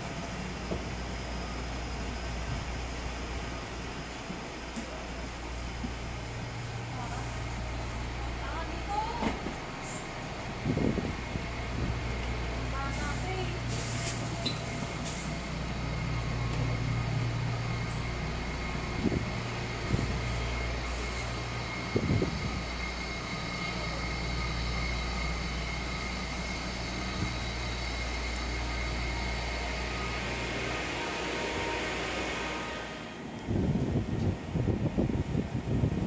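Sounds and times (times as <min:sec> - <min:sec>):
train equipment hum and whine: 0:00.0 - 0:36.0.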